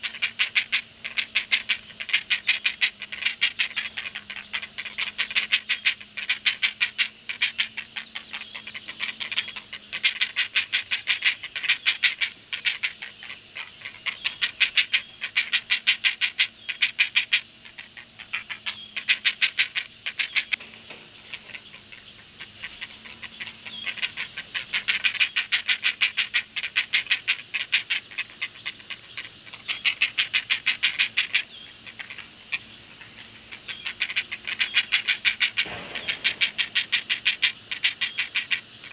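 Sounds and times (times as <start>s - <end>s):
heron chicks harsh clacking calls: 0.0s - 38.9s.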